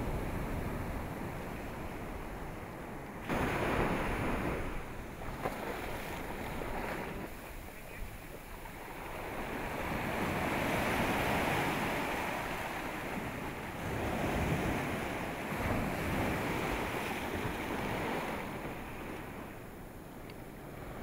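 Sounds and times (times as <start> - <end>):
ocean surf washing up beach: 0.0 - 21.0.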